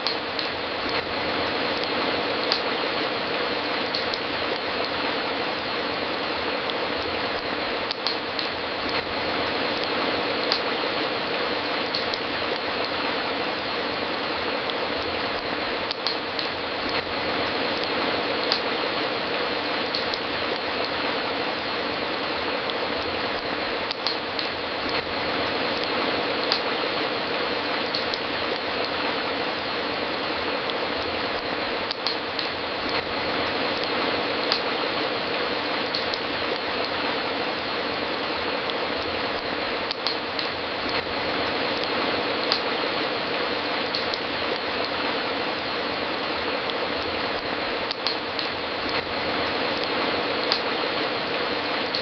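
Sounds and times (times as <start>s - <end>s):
fireplace crackling and popping: 0.0s - 52.0s.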